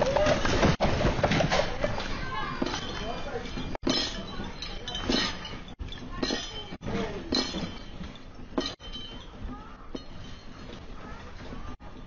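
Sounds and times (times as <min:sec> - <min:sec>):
glassware and dishes clinking: 0:00.2 - 0:10.8.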